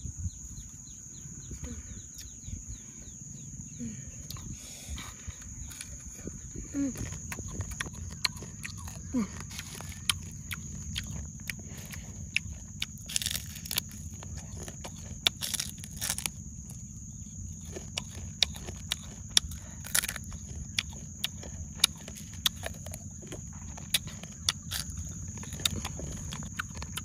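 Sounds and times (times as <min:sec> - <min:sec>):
person chewing crunchy food: 0:04.2 - 0:27.0.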